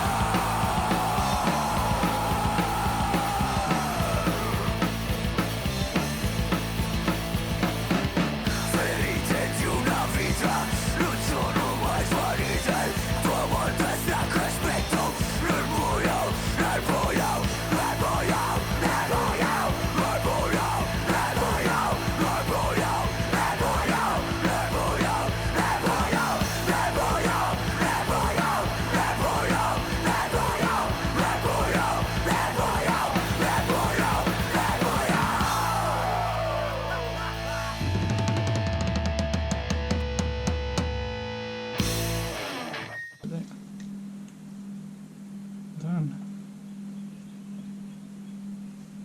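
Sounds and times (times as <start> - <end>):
rock music with driving beat: 0.0 - 43.0.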